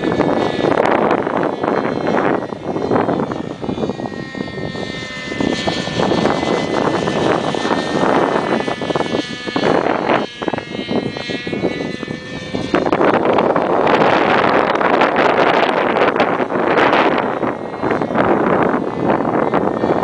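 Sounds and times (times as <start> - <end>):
model helicopter engine whining: 0.0 - 20.0
wind buffeting on microphone: 0.0 - 20.0.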